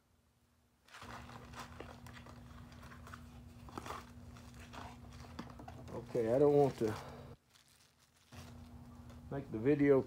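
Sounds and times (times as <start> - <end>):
cardboard and paper rustling: 0.9 - 9.2.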